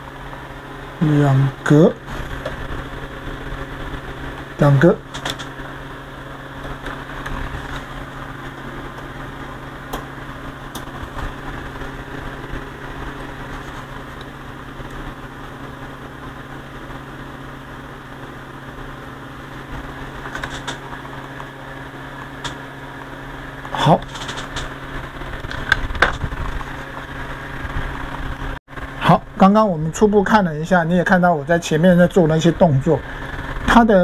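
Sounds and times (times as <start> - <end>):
electrical hum and hiss: 0.0 - 34.0.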